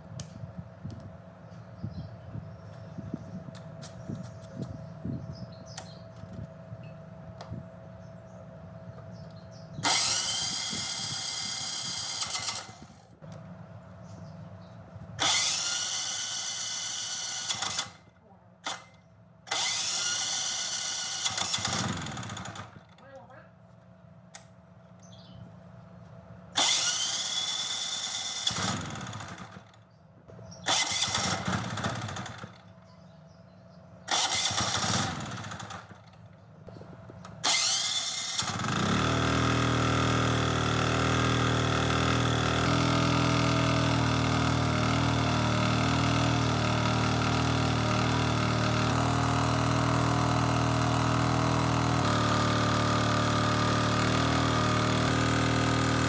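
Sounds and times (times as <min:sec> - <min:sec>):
generator engine starting and running: 0:00.0 - 0:56.0.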